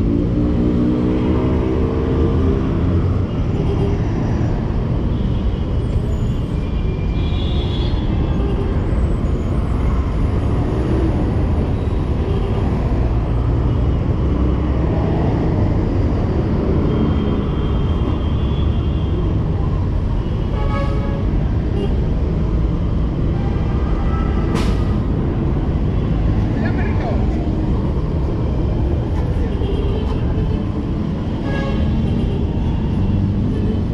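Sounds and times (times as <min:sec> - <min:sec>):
city traffic rumble: 0:00.0 - 0:33.9.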